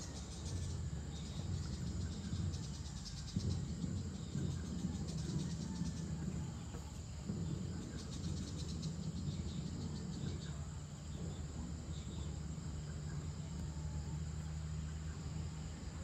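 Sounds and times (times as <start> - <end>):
crickets chirping: 0.0 - 16.0
steady low hum: 0.0 - 16.0.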